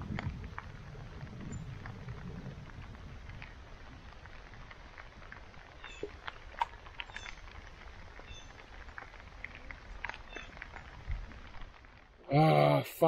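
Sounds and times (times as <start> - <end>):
rain falling on a lake: 0.0 - 13.0.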